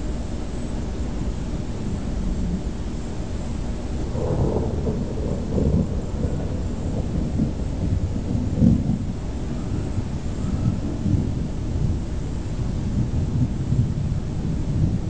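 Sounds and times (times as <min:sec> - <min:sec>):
thunder rumbling: 0:01.2 - 0:15.0.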